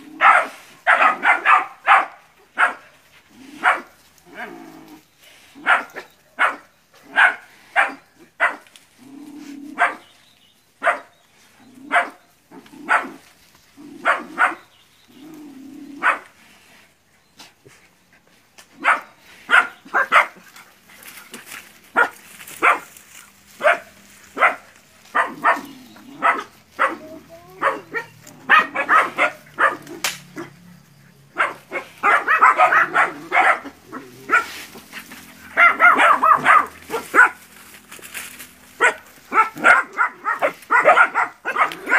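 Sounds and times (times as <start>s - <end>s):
puppies barking: 0.0s - 4.7s, 5.3s - 8.7s, 9.4s - 10.1s, 10.8s - 11.1s, 11.7s - 16.4s, 18.8s - 37.8s, 38.4s - 41.9s.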